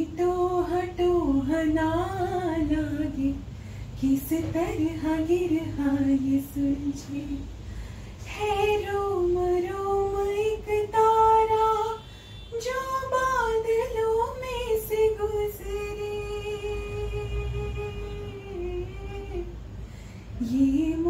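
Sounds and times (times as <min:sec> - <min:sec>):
woman singing unaccompanied: 0:00.0 - 0:07.6, 0:08.2 - 0:19.6, 0:20.4 - 0:21.0.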